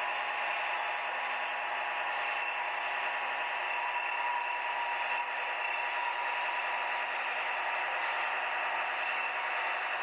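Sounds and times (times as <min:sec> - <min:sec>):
model train motor and wheels: 0:00.0 - 0:10.0.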